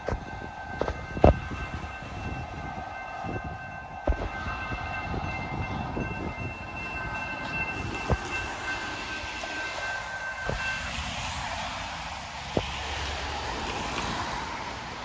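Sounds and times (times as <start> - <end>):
crossing warning signal tones: 0.0 - 15.0
train wheels rumbling on rails: 0.0 - 15.0.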